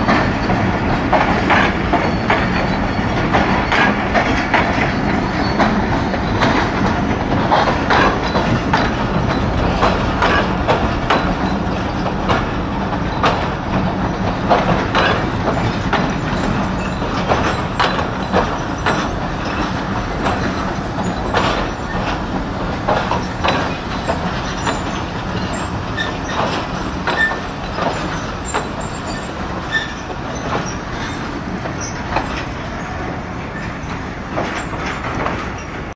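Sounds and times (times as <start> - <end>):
train rumble: 0.0 - 35.9
train wheel squeals: 0.0 - 35.9
train wheels clacking over rail joints: 0.0 - 35.9.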